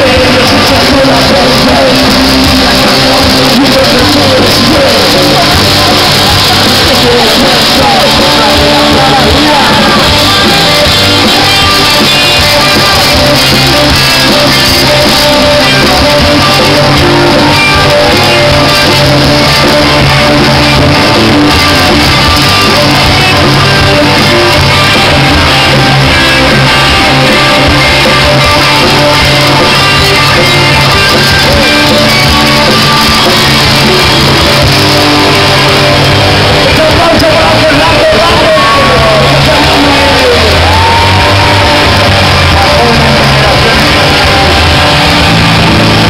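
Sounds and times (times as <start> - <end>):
electric guitar: 0.0 - 46.0
live rock band playing: 0.0 - 46.0
shouted singing: 0.0 - 46.0.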